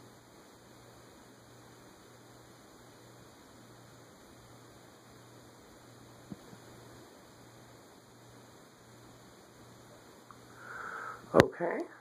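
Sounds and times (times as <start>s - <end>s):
ceiling fan motor humming: 0.0s - 12.0s
faint hiss: 0.0s - 12.0s.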